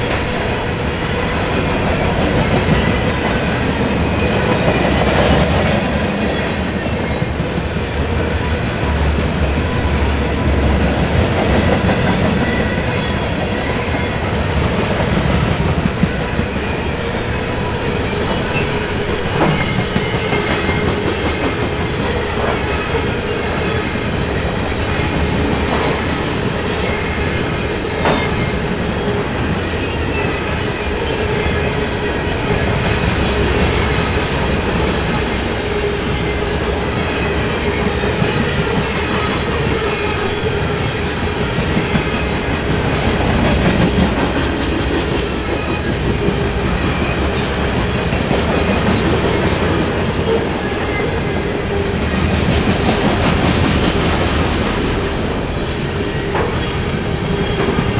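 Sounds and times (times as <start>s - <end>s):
train wheels rumbling: 0.0s - 57.9s.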